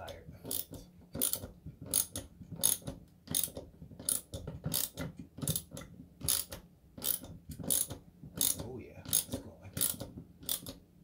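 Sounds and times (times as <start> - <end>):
socket ratchet clicking: 0.5 - 10.8.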